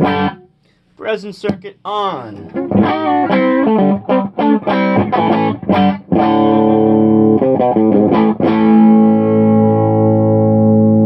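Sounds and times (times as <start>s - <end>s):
electric guitar playing: 0.0s - 0.5s, 2.4s - 11.0s.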